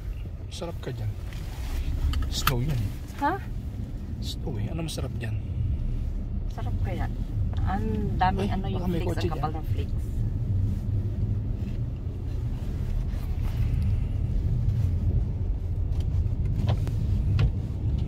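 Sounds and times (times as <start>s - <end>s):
car cabin rumble: 0.0s - 18.0s.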